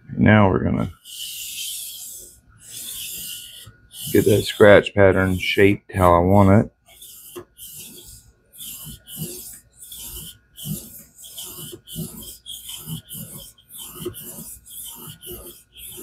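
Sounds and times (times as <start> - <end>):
knife scraping on whetstone: 1.0 - 5.4, 6.9 - 16.0.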